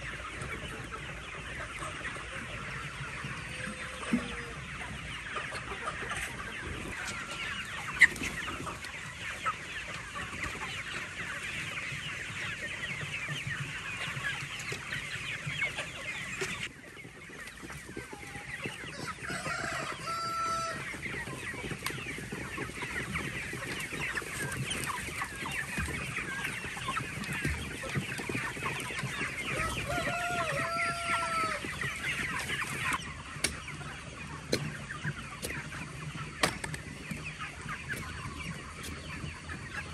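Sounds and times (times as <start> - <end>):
long drawn-out poultry calls: 0.0 - 39.9
poultry clucking: 0.0 - 39.9.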